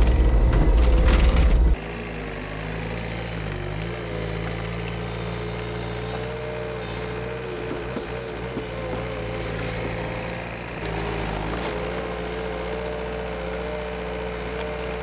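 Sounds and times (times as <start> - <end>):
diesel engine whining under load: 0.0 - 15.0.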